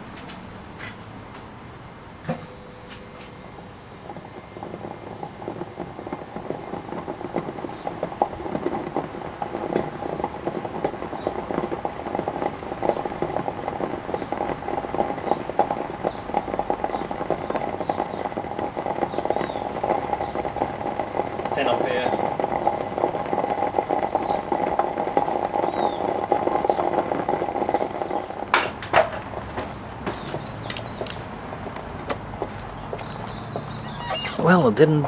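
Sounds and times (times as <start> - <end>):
water crackling and popping: 3.6 - 35.0.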